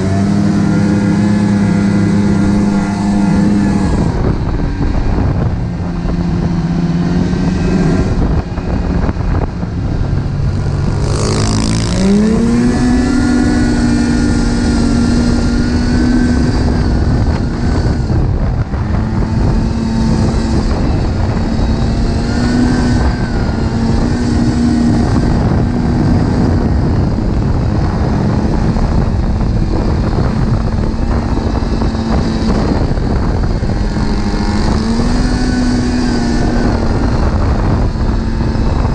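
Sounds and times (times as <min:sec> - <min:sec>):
snowmobile engine running: 0:00.0 - 0:38.9
wind noise on microphone: 0:00.0 - 0:38.9.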